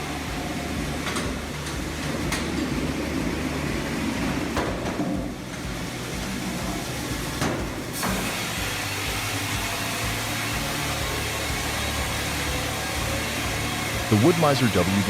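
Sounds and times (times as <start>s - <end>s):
wood-processing machinery running: 0.0s - 15.0s.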